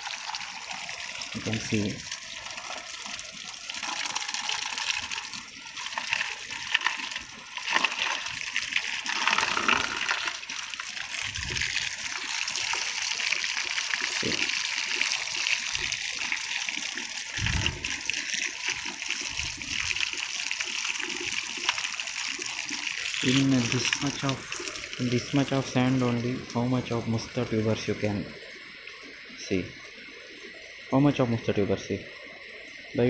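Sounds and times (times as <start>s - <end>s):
water splashing into basin: 0.0s - 27.2s.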